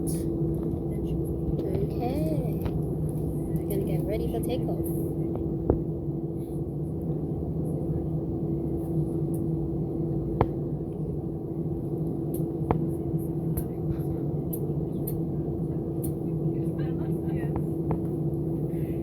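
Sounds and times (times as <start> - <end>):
aircraft cabin hum: 0.0 - 19.0.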